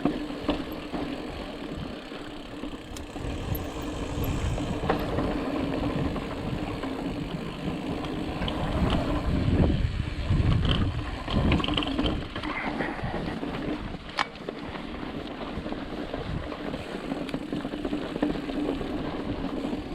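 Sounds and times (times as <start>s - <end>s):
clicks and knocks from bike: 0.0s - 9.3s, 10.4s - 19.9s
bike rolling over rock: 0.0s - 19.9s.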